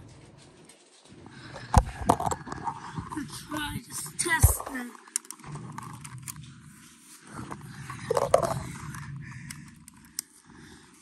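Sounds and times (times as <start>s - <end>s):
scraping and rubbing: 0.0s - 10.2s.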